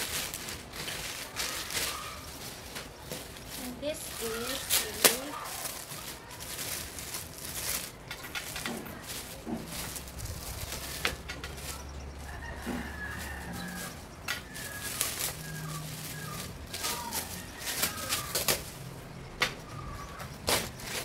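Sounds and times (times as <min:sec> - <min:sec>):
chickens clucking: 0:00.0 - 0:21.0
plastic parcel crinkling: 0:00.0 - 0:21.0.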